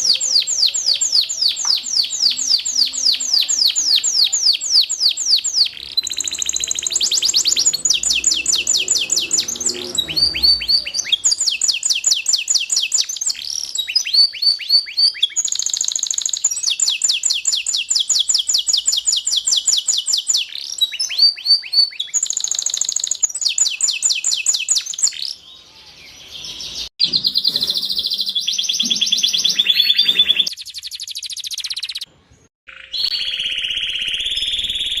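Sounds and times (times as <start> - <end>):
canary singing rapid trills: 0.0 - 25.4, 26.1 - 32.1, 32.7 - 35.0.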